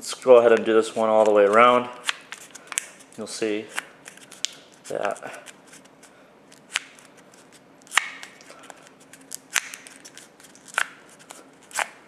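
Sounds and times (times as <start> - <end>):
paper cup crackling: 0.4 - 12.0.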